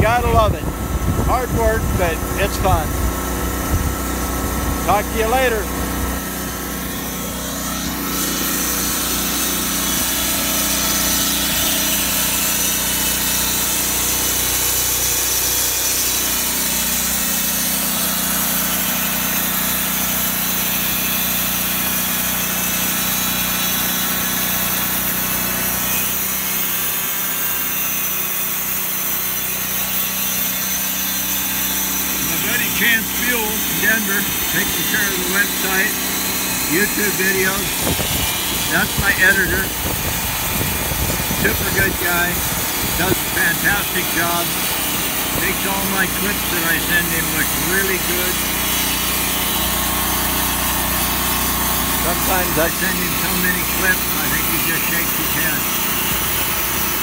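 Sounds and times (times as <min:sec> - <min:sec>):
band sawmill sawing log: 0:00.0 - 0:57.0.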